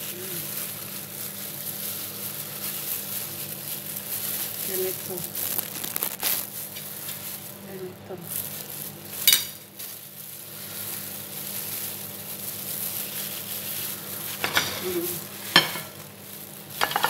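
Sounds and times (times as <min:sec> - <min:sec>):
plastic gloves and pastry crinkling: 0:00.0 - 0:17.0.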